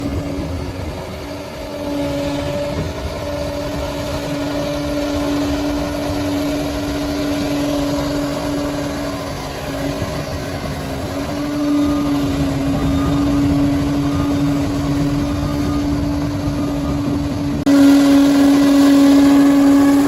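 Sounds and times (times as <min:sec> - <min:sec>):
bulldozer diesel engine running: 0:00.0 - 0:20.0
constant whine: 0:00.0 - 0:20.0.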